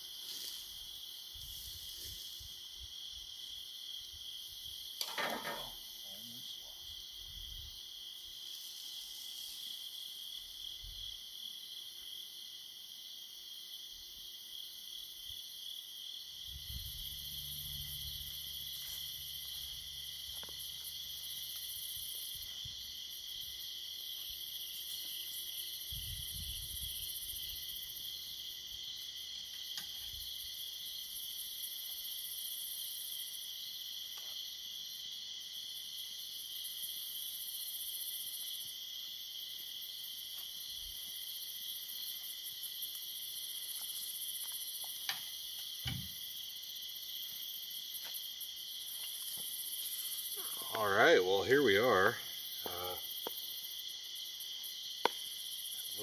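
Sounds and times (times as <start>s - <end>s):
crickets and night insects: 0.0s - 56.0s.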